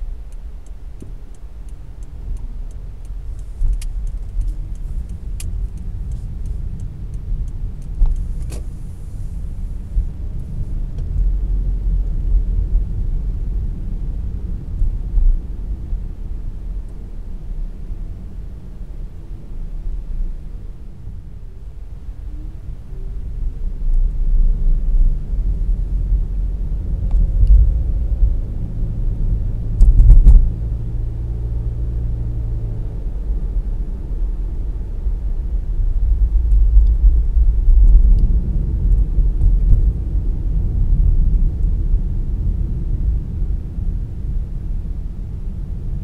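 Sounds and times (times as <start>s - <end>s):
car road and engine noise: 0.0s - 46.0s.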